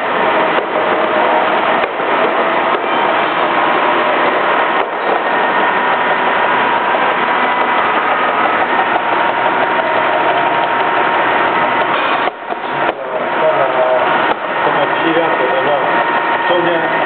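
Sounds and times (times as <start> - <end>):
faint machine whine: 0.0 - 17.0
machine motors droning: 0.0 - 17.0.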